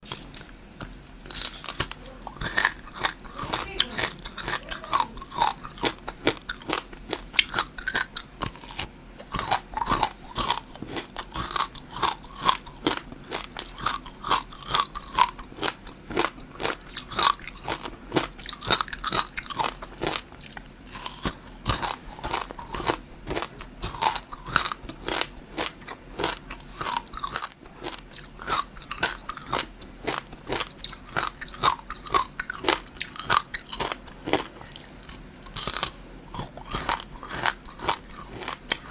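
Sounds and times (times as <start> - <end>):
crunchy bites and chewing: 0.0 - 38.9.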